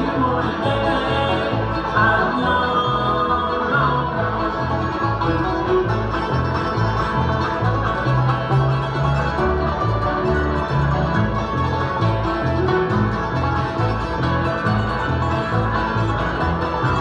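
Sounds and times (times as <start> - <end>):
banjo picking: 0.0 - 17.0
bass line: 0.0 - 17.0
guitar picking: 0.0 - 17.0.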